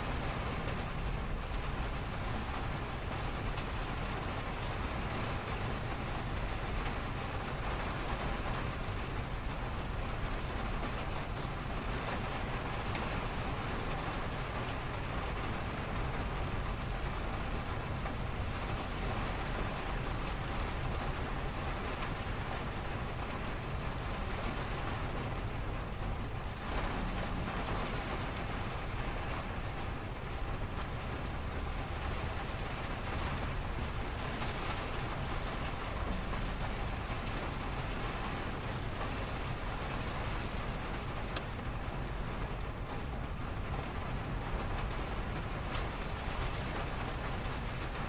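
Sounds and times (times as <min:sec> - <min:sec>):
low rumble of traffic: 0:00.0 - 0:48.0
rain pattering on a window: 0:00.0 - 0:48.0.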